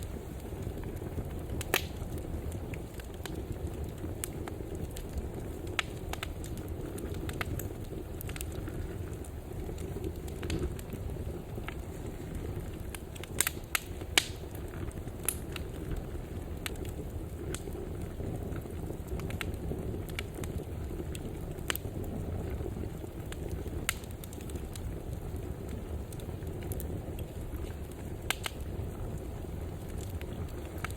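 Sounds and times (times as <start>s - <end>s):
fire crackling and popping: 0.0s - 30.9s
flames rumbling: 0.0s - 30.9s.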